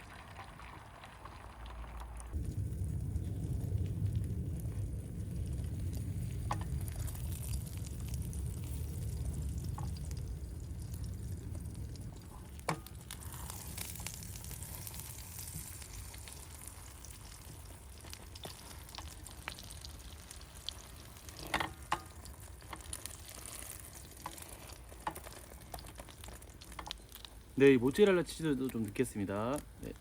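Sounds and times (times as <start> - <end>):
food sizzling in a frying pan: 0.0 - 30.0.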